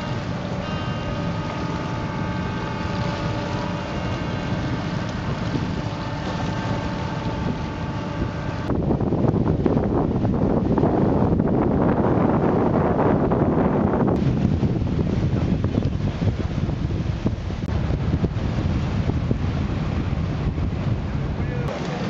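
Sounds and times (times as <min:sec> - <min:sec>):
boat engines droning: 0:00.0 - 0:22.0
wind buffeting microphone: 0:00.0 - 0:22.0.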